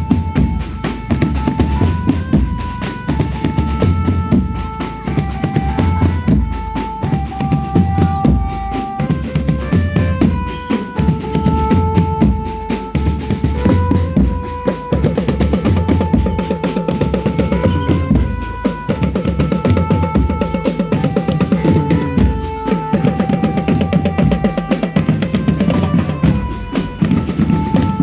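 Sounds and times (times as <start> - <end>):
held-note melody: 0.0 - 28.0
snare and bass drums: 0.0 - 28.0.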